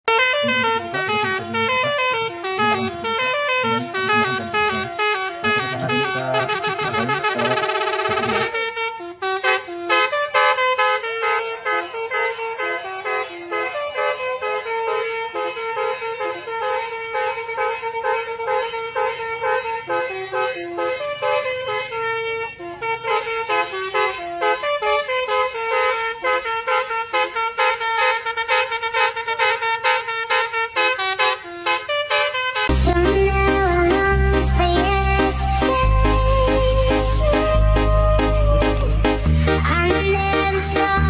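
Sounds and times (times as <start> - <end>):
horn playing a rapid tune: 0.1 - 41.0.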